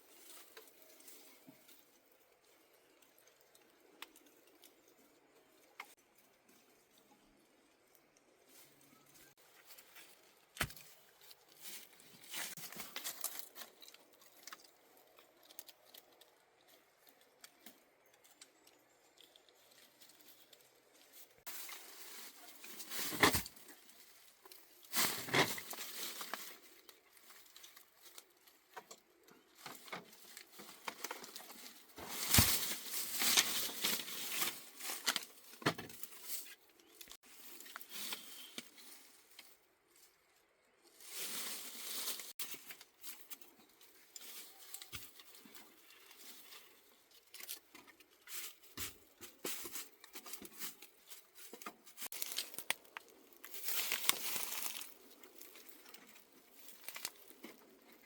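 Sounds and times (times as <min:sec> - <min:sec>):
leaves and bamboo rustling: 0:00.0 - 0:58.0.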